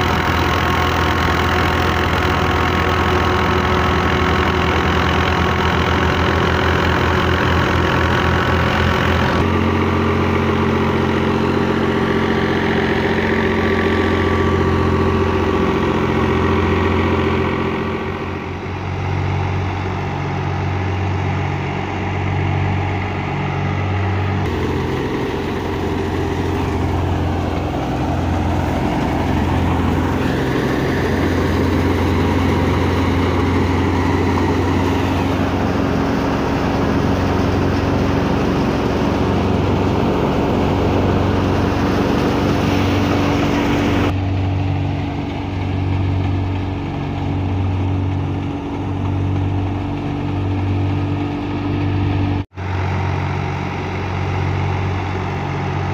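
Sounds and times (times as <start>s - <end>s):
thresher drum humming: 0.0s - 55.9s
tractor diesel engine running: 0.0s - 55.9s.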